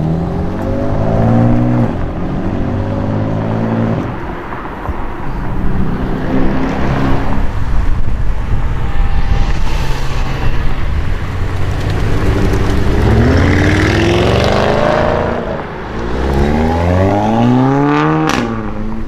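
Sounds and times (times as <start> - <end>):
sports car engines accelerating: 0.0 - 19.0.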